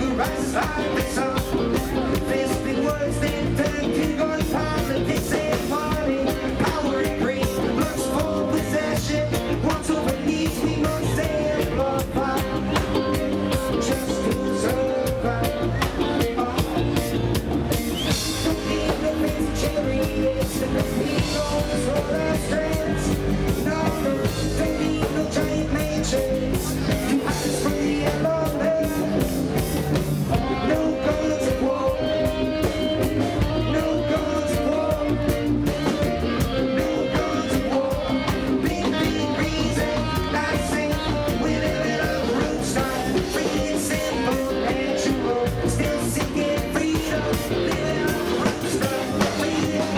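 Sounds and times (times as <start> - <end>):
reggae band playing: 0.0 - 49.9.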